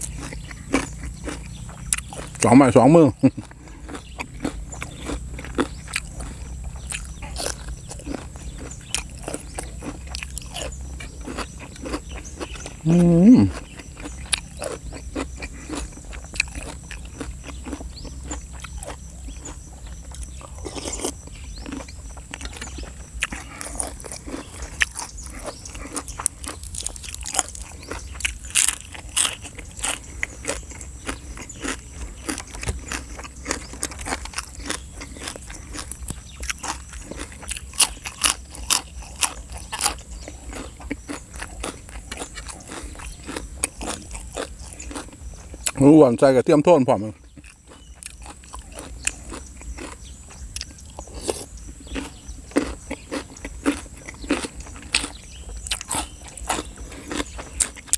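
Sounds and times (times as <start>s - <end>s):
chewing and crunching: 0.0s - 57.9s.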